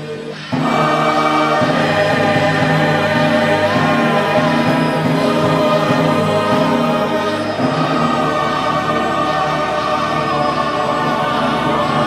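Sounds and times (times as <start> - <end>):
choir singing with music: 0.0 - 12.0.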